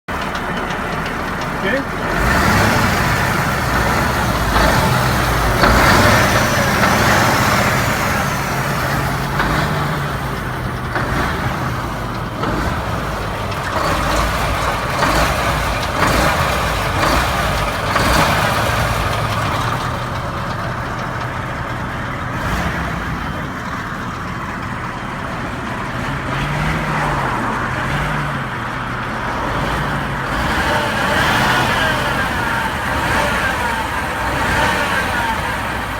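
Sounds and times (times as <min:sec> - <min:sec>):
diesel truck engine revving: 0:00.0 - 0:35.9.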